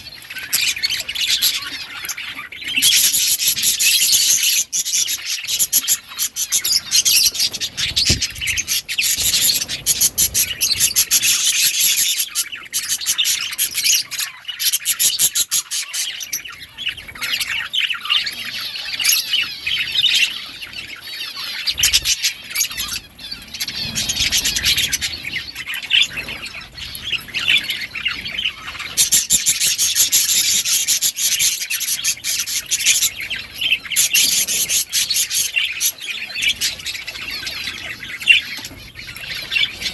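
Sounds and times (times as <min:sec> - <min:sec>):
budgies chattering and chirping: 0:00.0 - 0:39.9.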